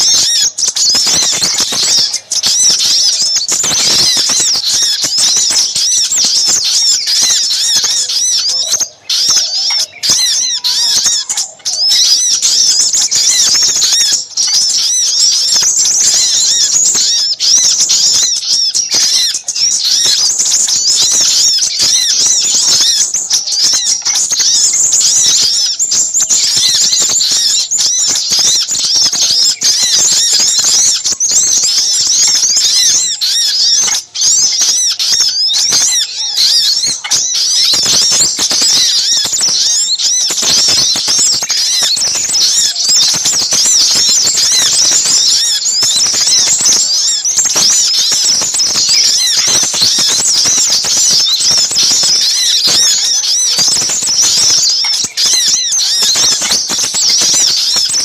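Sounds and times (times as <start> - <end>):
birds chirping and twittering: 0.0 - 58.0.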